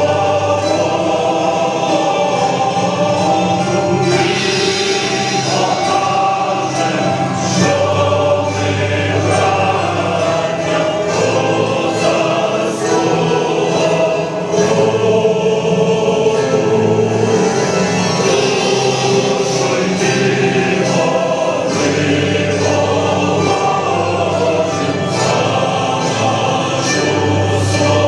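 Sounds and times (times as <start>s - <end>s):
choir singing sustained notes: 0.0s - 28.0s.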